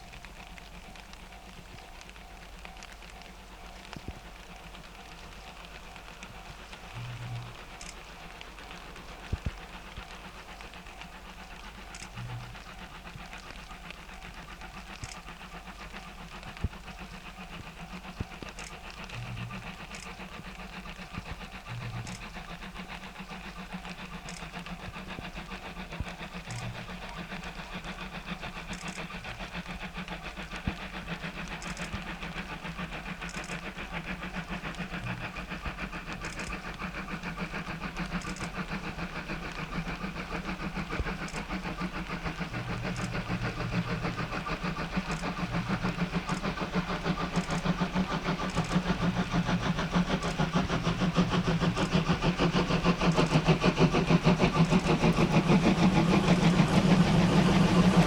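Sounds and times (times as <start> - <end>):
steam locomotive running: 0.0 - 58.0.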